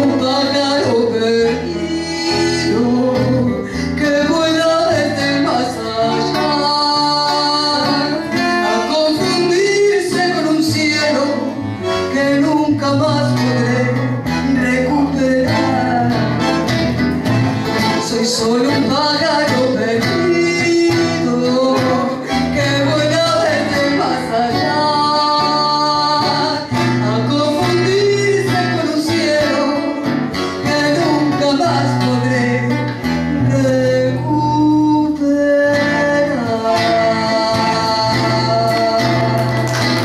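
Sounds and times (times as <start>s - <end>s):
woman singing into a microphone: 0.0s - 16.6s, 18.0s - 40.0s
acoustic guitar: 0.0s - 40.0s.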